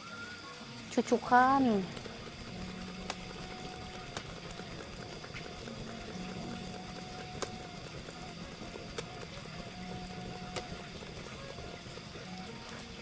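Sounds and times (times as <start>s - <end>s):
fire crackling: 0.8s - 13.0s.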